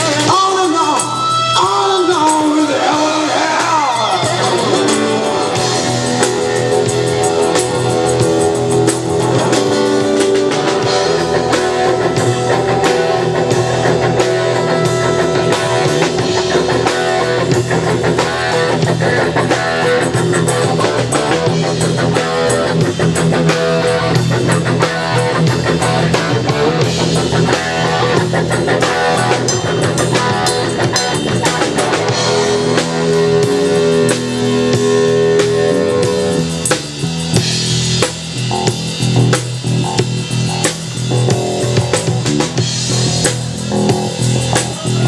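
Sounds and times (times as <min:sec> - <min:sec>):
drum kit: 0:00.0 - 0:45.0
electric guitar lead: 0:00.0 - 0:45.0.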